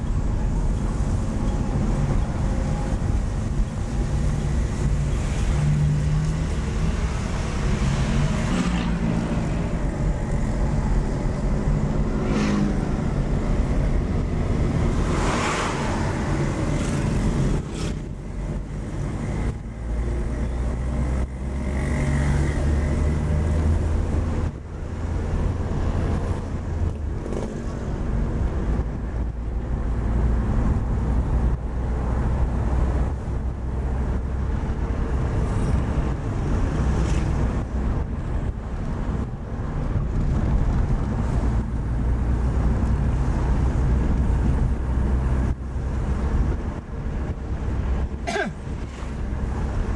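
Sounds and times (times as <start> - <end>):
car engine and road rumble: 0.0 - 49.9
passing traffic: 0.0 - 49.9.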